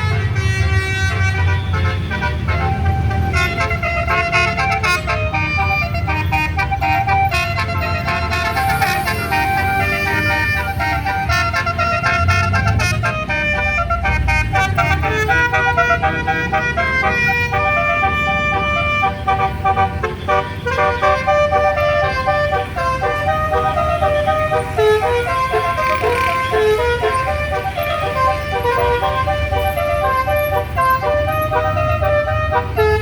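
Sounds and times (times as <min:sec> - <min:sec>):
bus engine running: 0:00.0 - 0:33.0
multi-tone bus horn melody: 0:00.0 - 0:33.0.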